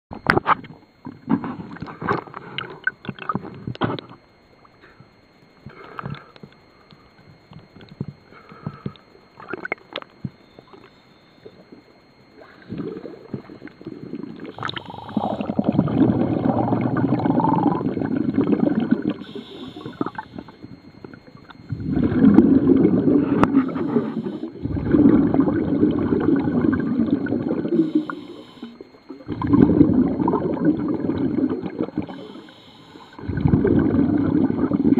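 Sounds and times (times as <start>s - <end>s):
regulator bubbles gurgling underwater: 0.2s - 4.8s, 5.5s - 34.9s.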